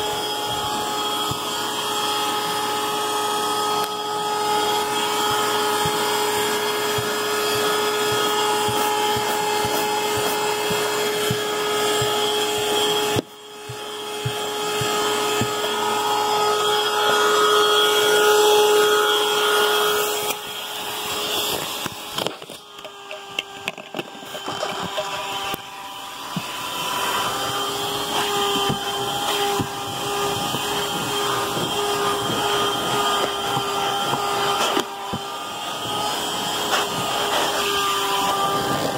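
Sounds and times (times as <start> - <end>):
vacuum cleaner whine: 0.0 - 38.9.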